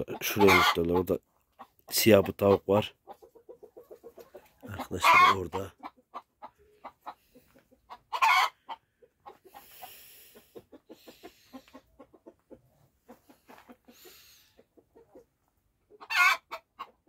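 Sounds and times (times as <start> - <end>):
hen clucking: 0.0 - 17.0.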